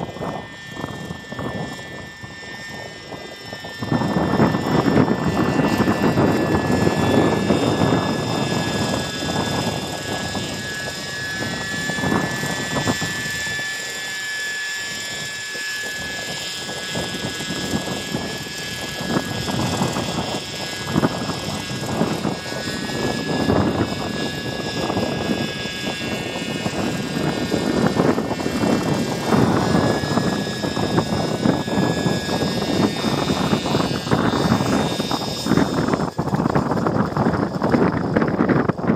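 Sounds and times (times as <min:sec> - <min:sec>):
model helicopter engine whine: 0:00.0 - 0:38.9.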